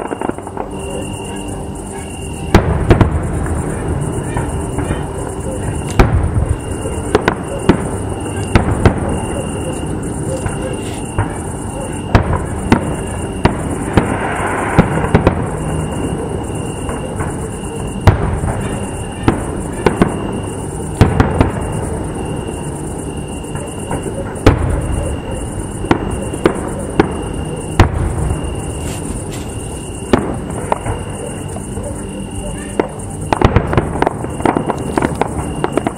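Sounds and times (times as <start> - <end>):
fireworks bangs: 0.0 - 35.9
fireworks rumble: 0.0 - 35.9.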